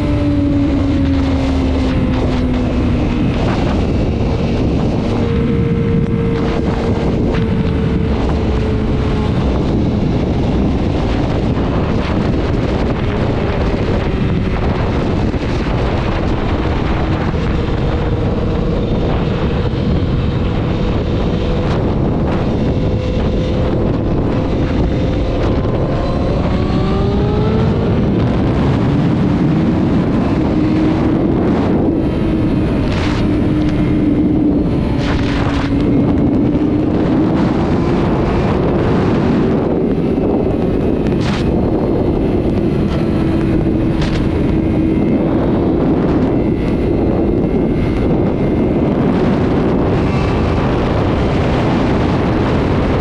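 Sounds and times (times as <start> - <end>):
motorcycle engine running at speed: 0.0 - 53.0
wind rushing over microphone: 0.0 - 53.0.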